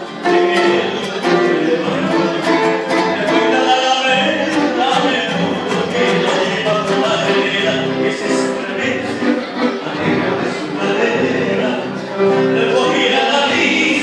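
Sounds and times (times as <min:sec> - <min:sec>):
two acoustic guitars playing: 0:00.0 - 0:14.0.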